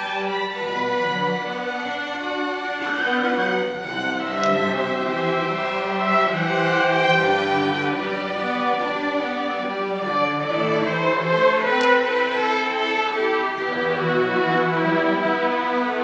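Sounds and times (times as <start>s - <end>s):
string orchestra playing: 0.0s - 16.0s.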